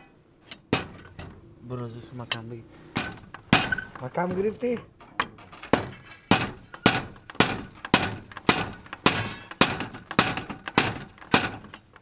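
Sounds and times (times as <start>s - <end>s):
hammer striking metal: 0.0s - 1.4s, 3.0s - 4.6s, 5.2s - 11.9s.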